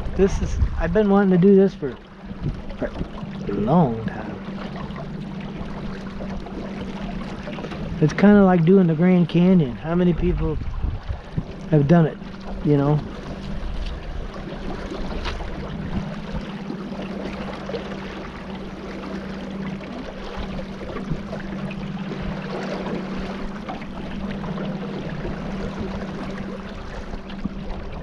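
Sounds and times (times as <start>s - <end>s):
boat motor humming: 0.0s - 28.0s
water rushing: 0.0s - 28.0s
wind: 0.0s - 28.0s.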